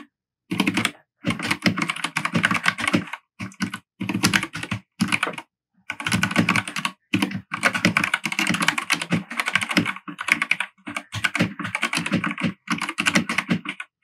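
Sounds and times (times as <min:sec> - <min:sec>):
mechanical keyboard typing: 0:00.0 - 0:14.0.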